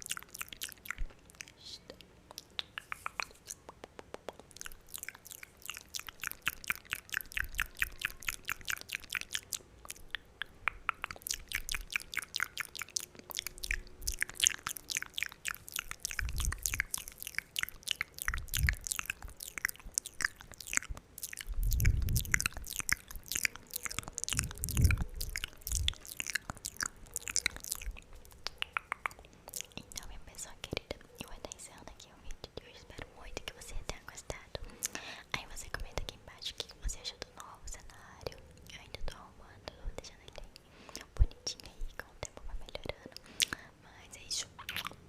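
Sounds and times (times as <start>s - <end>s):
wet mouth clicks and smacks: 0.0s - 45.0s.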